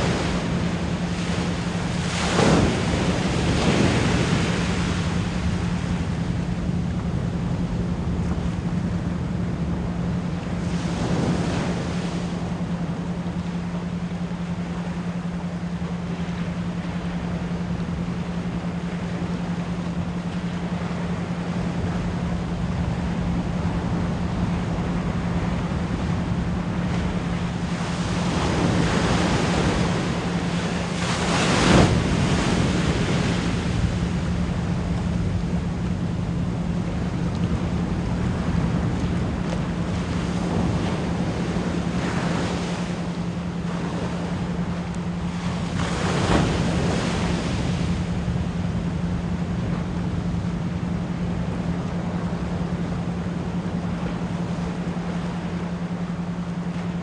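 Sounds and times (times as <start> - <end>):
ocean waves washing in: 0.0 - 57.0
steady pure tone: 0.0 - 57.0.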